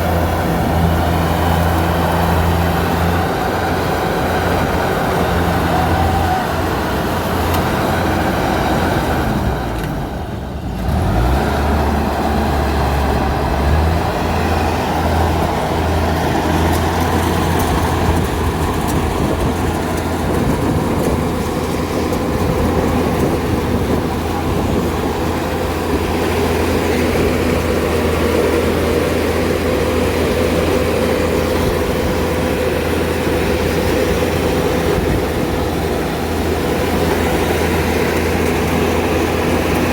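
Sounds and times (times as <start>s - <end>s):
combine harvester engine and threshing: 0.0s - 39.9s.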